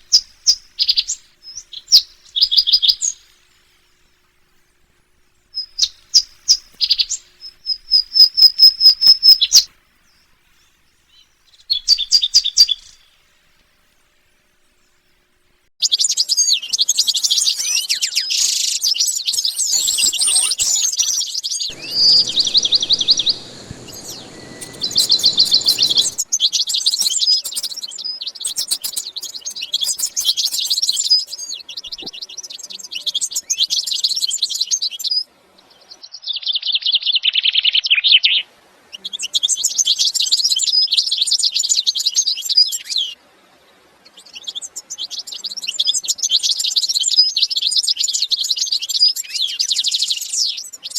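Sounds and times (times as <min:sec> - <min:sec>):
small birds chirping and twittering: 0:00.0 - 0:13.3, 0:14.2 - 0:50.9.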